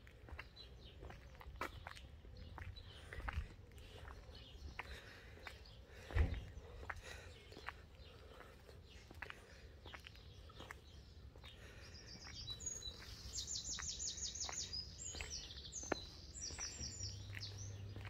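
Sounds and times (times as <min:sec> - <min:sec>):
soft footsteps clicking: 0:00.0 - 0:18.0
songbird chirping and trilling: 0:00.2 - 0:18.0.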